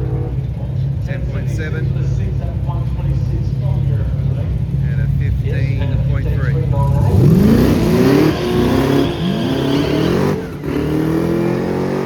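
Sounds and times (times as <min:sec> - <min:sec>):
racing car engine accelerating: 0:00.0 - 0:12.0.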